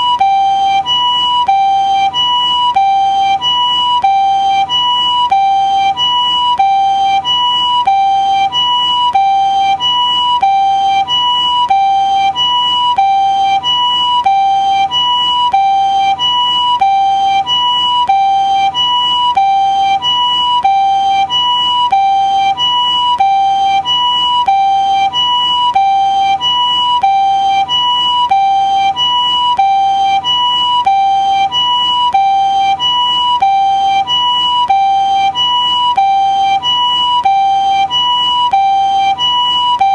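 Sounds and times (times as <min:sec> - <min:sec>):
ambulance two-tone siren: 0:00.0 - 0:39.9.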